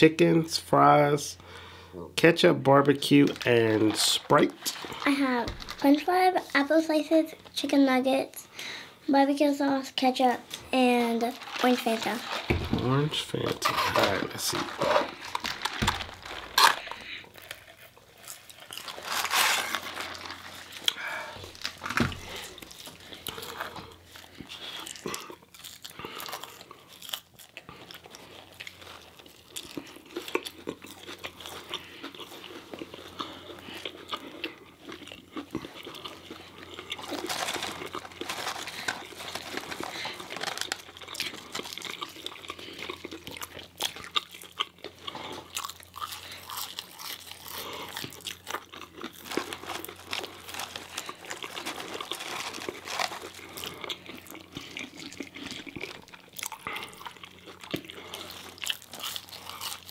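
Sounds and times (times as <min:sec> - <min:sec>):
crunching and chewing food: 0:02.6 - 0:07.6, 0:10.4 - 0:59.9.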